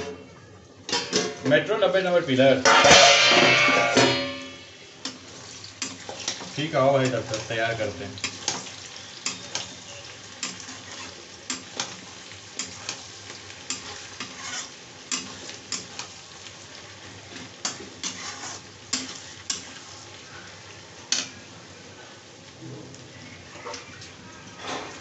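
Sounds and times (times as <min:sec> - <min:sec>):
onions sizzling in a pan: 0:00.0 - 0:25.0
metal spatula scraping a pan: 0:00.9 - 0:21.4.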